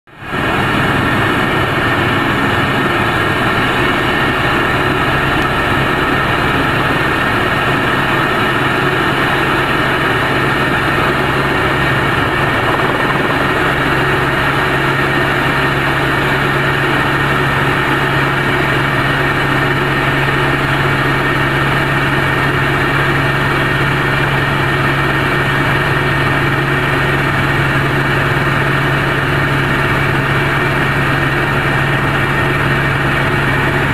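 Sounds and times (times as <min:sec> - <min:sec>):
helicopter engine and rotor drone: 0:00.1 - 0:33.9.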